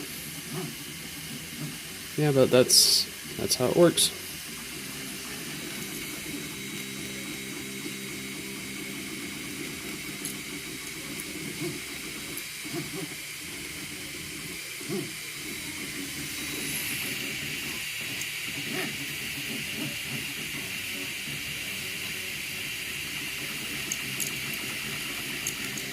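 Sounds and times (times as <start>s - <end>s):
cooling fans hissing: 0.0s - 25.9s
stepper motors whining: 0.0s - 25.9s.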